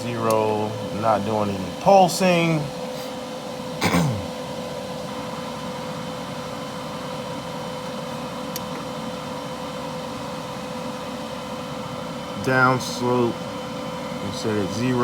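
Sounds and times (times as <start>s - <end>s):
constant hum tone: 0.0s - 15.0s
welder cooling fan whirring: 0.0s - 15.0s.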